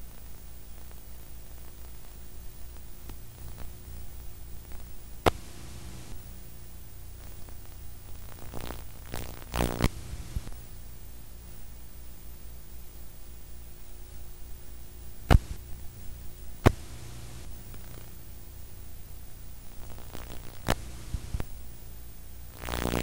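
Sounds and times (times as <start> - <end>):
buzzing crackle: 0.0 - 23.0
recording hiss and hum: 0.0 - 23.0.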